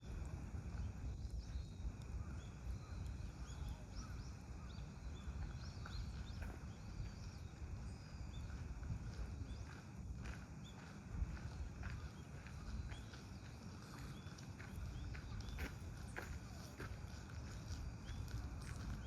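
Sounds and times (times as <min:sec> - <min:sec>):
steady low rumble: 0:00.0 - 0:19.0
birds chirping: 0:00.1 - 0:19.0.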